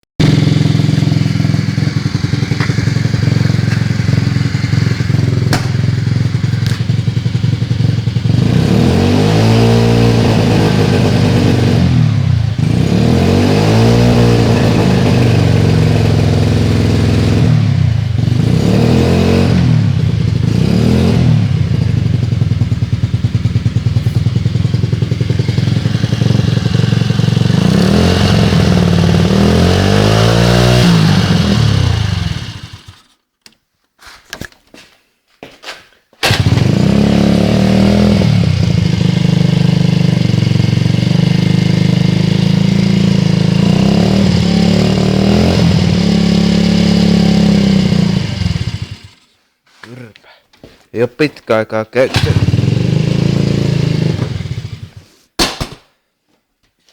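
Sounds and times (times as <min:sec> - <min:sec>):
scooter engine idling and revving: 0:00.2 - 0:33.2, 0:36.2 - 0:49.4, 0:52.0 - 0:55.2.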